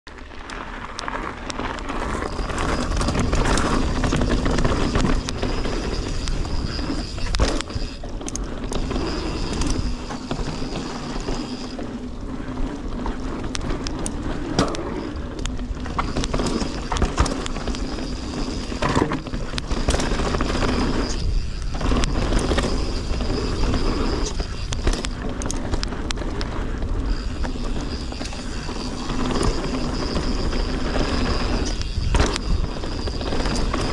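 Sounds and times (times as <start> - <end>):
bike rattling and clicking: 0.1 - 33.9
bike tyres crunching on gravel: 0.1 - 33.9
thin high whine: 2.0 - 12.0, 14.5 - 25.9, 27.0 - 33.9.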